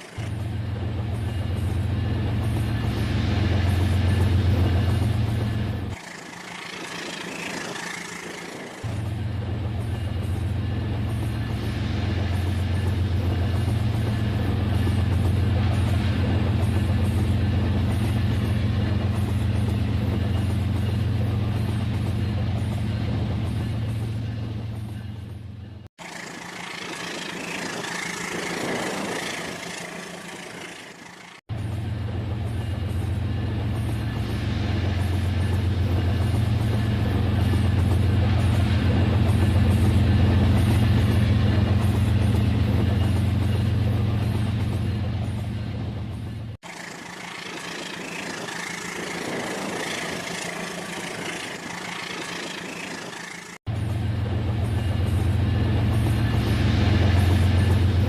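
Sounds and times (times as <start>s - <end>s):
model train running on track: 0.0s - 58.0s.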